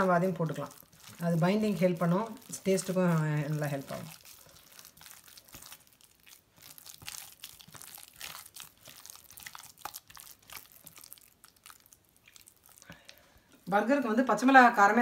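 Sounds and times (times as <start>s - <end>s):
hand kneading wet mixture: 0.0s - 14.6s.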